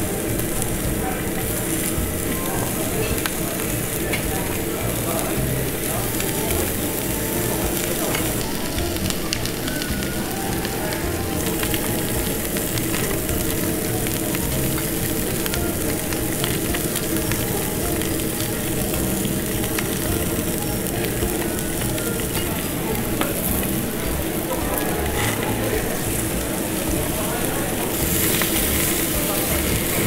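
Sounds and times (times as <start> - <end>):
meat sizzling on grill plate: 0.0 - 30.0.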